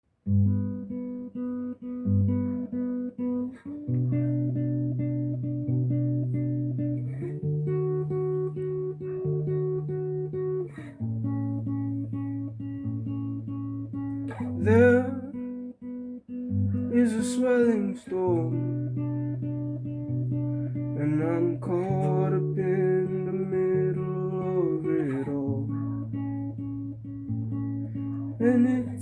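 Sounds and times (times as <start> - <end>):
acoustic guitar picking chords: 0.2 - 29.0.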